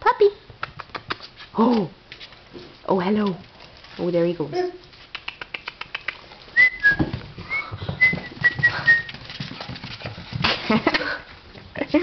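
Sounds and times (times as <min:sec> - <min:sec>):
puppy claws pattering on floor: 0:00.5 - 0:12.0.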